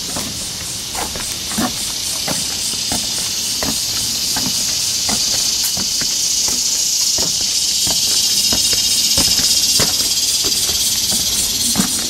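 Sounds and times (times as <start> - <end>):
footsteps on wooden boardwalk: 0.0 - 12.0
high-pitched insect drone: 0.0 - 12.0.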